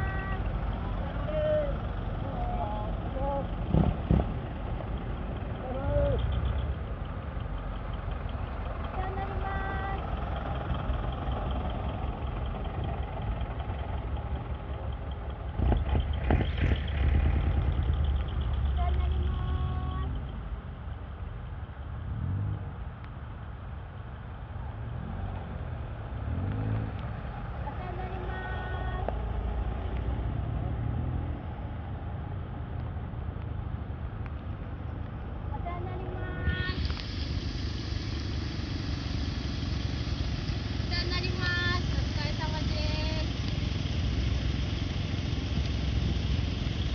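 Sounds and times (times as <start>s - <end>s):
truck diesel engines rumbling: 0.0s - 46.9s.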